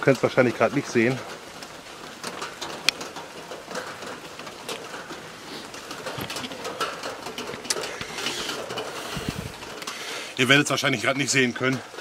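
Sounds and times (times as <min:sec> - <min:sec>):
drops ticking and dripping: 0:00.0 - 0:12.0
steady rain: 0:00.0 - 0:12.0.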